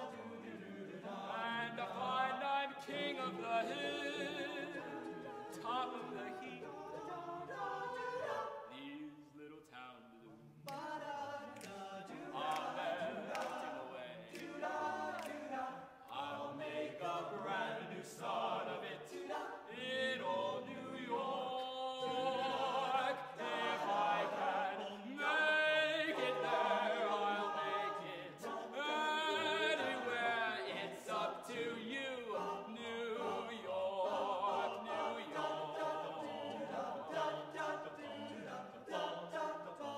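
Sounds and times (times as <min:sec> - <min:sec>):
men's choir singing: 0:00.0 - 0:09.2, 0:10.6 - 0:39.9.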